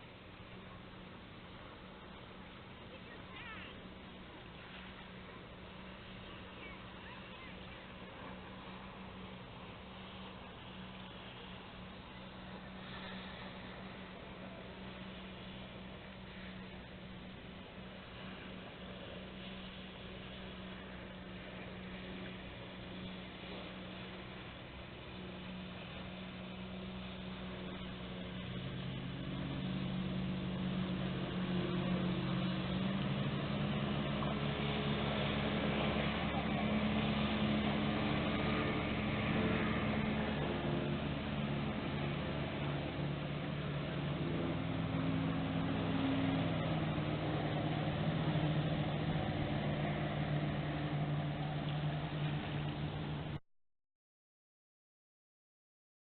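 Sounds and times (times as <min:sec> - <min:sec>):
motorboat engine: 0:00.0 - 0:53.4.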